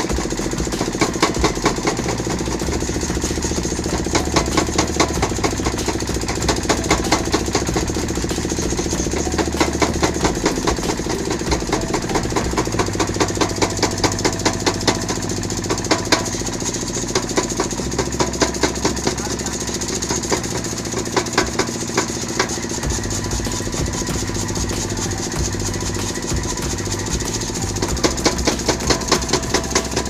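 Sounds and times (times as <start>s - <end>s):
motor running: 0.0s - 30.0s
power hammer striking metal: 0.0s - 30.0s.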